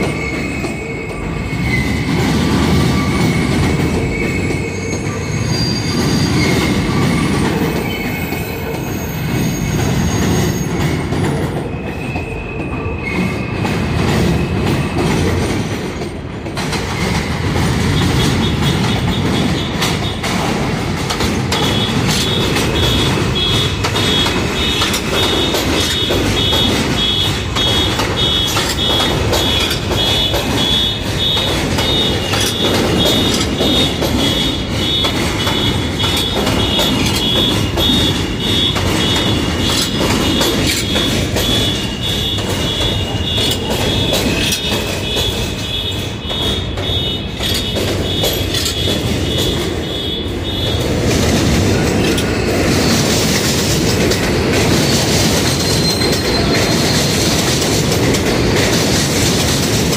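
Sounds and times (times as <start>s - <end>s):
wheels squealing: 0.0s - 15.8s, 16.8s - 59.9s
train rumbling with wheel clatter: 0.0s - 59.9s.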